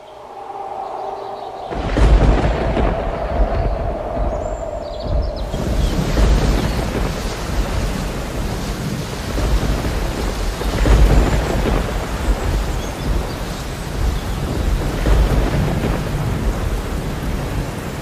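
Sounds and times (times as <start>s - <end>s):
heavy rain: 0.0s - 18.0s
low rumbling thunder: 0.0s - 18.0s.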